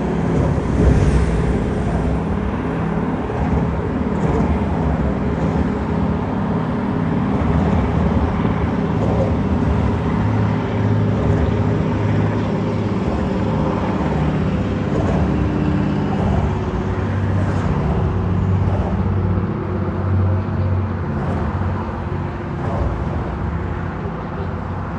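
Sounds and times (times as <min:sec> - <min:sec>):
street traffic rumble: 0:00.0 - 0:24.9.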